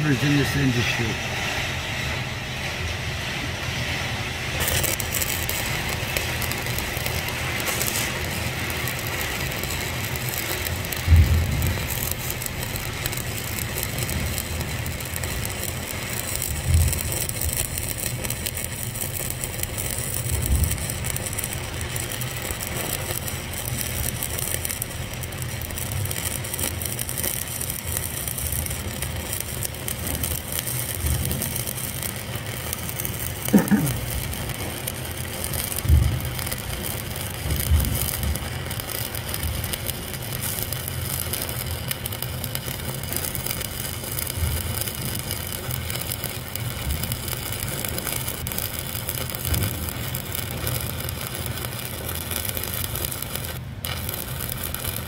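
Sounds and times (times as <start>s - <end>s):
welding arc crackling: 0.0s - 55.0s.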